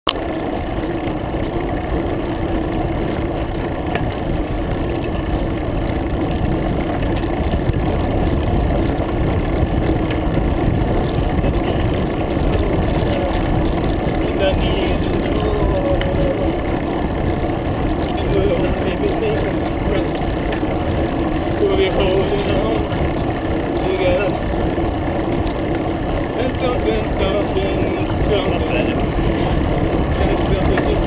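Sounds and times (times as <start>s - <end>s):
road and wind rumble: 0.1s - 31.0s.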